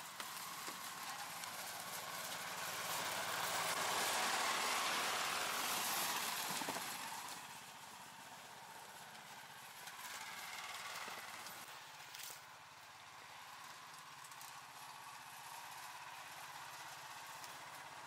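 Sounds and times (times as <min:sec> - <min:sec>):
sleds sliding over snow: 0:00.0 - 0:18.0
snow tow engine running: 0:00.0 - 0:18.0.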